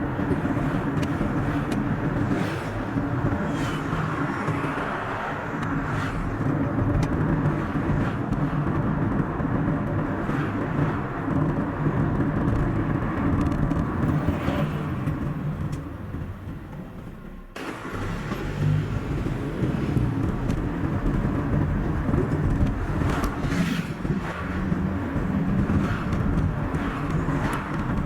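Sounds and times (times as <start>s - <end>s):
car engine: 0.0s - 28.0s
tyre road noise: 0.0s - 28.0s.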